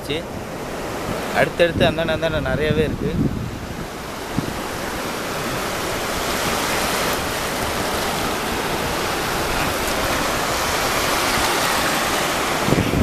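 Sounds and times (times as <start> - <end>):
surf washing over sand: 0.0 - 13.0.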